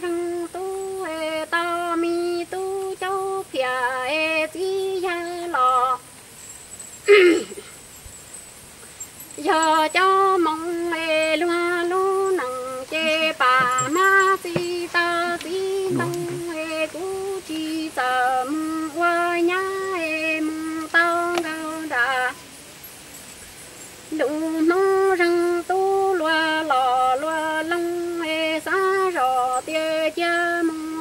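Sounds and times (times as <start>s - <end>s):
woman singing: 0.0s - 6.0s, 9.4s - 22.4s, 24.1s - 31.0s.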